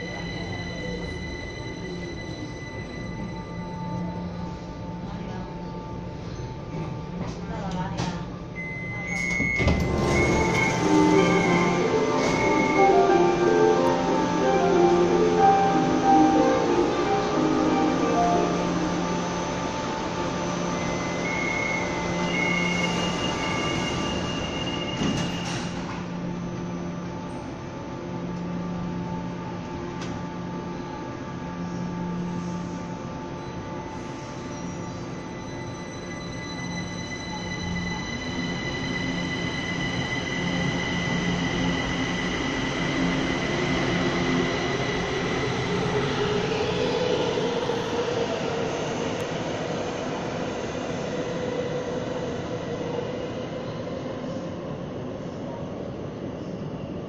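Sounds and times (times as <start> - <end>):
metro train running: 0.0 - 57.0.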